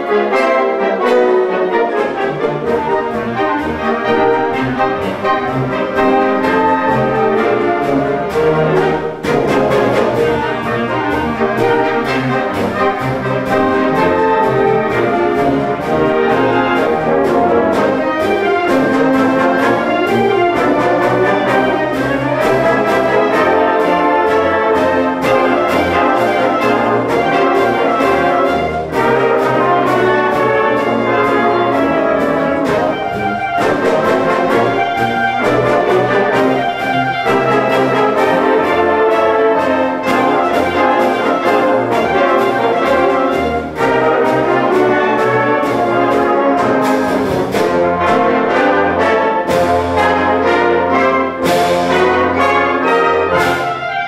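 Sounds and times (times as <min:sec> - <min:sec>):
concert band playing: 0:00.0 - 0:54.0.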